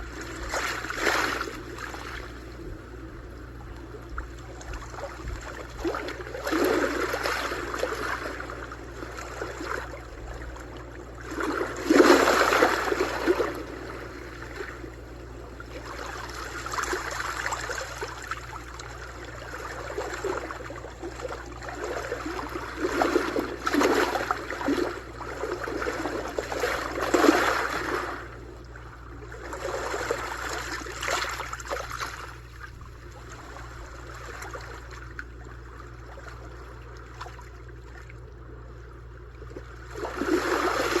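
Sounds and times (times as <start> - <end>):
sea waves washing: 0.0 - 32.5, 39.8 - 41.0.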